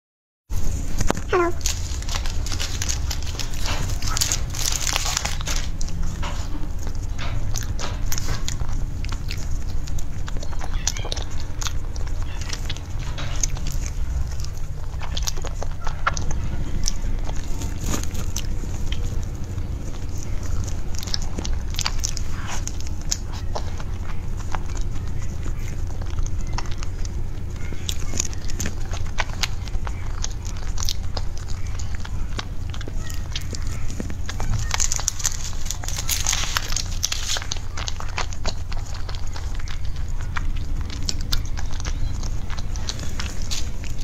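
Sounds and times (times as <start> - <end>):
biting and chewing with mouth clicks: 0.5 - 44.0
steady low hum: 0.5 - 44.0
paper cake liner crinkling: 0.6 - 44.0.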